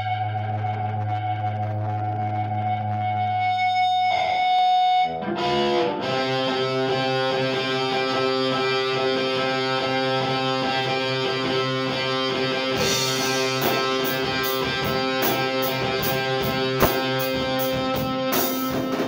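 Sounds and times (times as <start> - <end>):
distorted electric guitar: 0.0 - 19.0
guitar and bass riff: 0.0 - 19.0.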